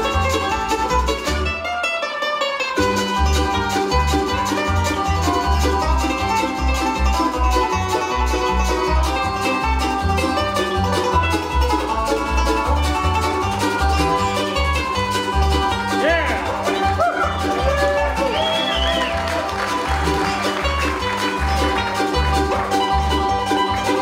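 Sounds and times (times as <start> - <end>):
acoustic guitar: 0.0 - 24.0
banjo picking: 0.0 - 24.0
mandolin: 0.0 - 24.0
upright bass: 0.0 - 24.0.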